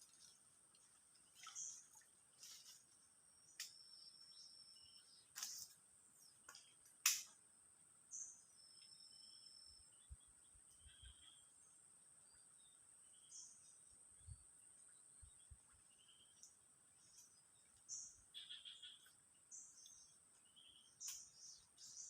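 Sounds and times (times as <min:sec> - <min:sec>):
insect drone: 0:01.6 - 0:22.0.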